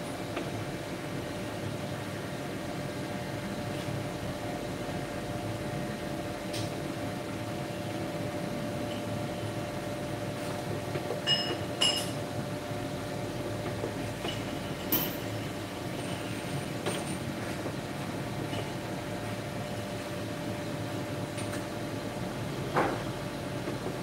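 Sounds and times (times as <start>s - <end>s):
workshop machinery hum: 0.0s - 24.0s.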